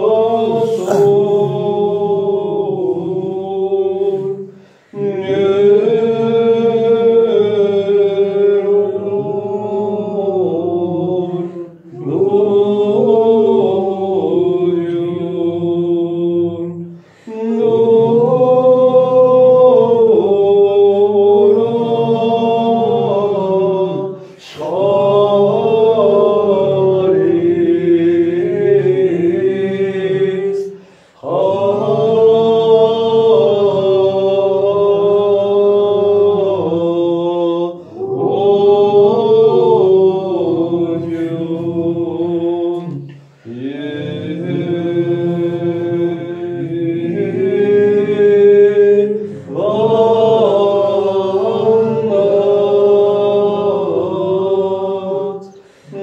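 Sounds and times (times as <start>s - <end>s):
sung church chant: 0.0s - 56.0s.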